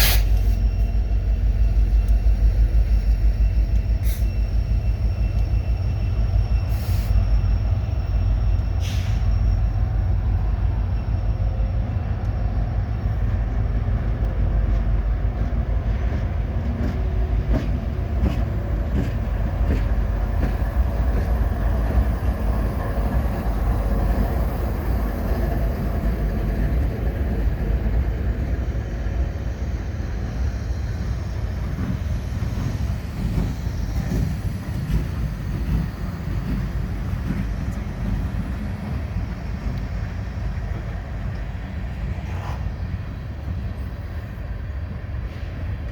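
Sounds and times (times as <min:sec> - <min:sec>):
freight train rumbling past: 0:00.0 - 0:45.9.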